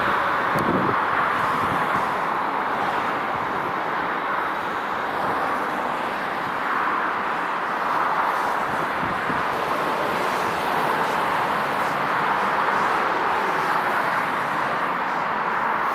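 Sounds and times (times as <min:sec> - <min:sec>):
train rolling through station: 0:00.0 - 0:15.9.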